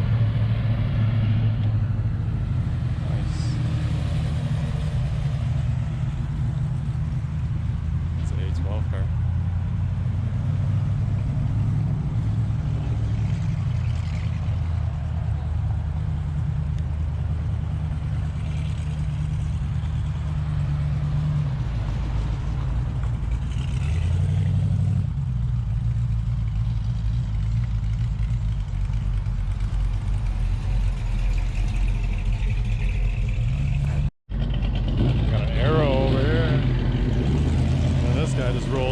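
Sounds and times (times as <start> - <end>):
car engine idling: 1.6 - 24.5, 25.1 - 38.9.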